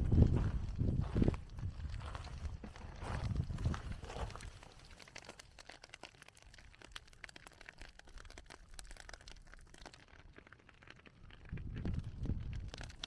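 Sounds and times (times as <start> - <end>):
lava crust crackling: 0.0 - 13.0.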